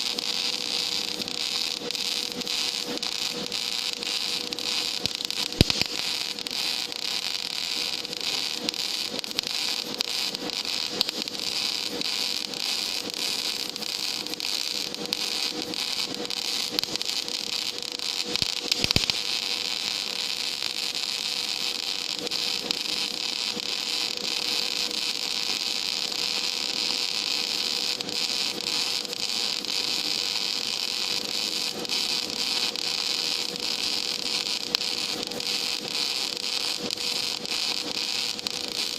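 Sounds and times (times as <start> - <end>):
welding arc crackling hiss: 0.0 - 38.9.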